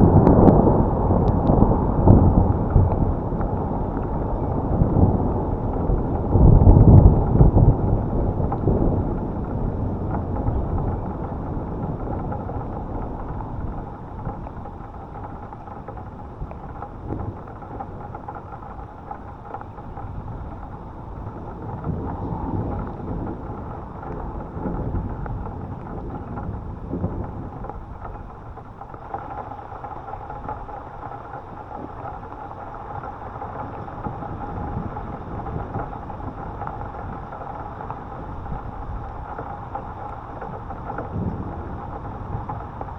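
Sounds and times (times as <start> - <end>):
steady rain: 0.0 - 42.9
thunder rumbling: 0.0 - 42.9.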